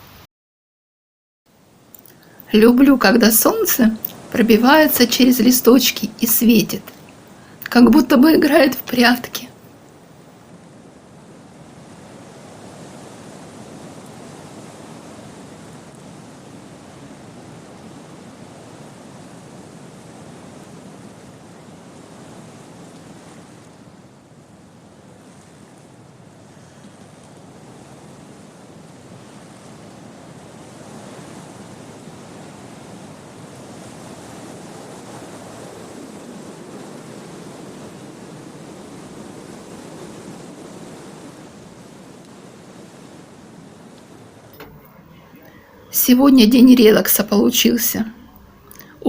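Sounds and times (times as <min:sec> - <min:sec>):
wind rustling tree leaves: 0:01.5 - 0:49.0.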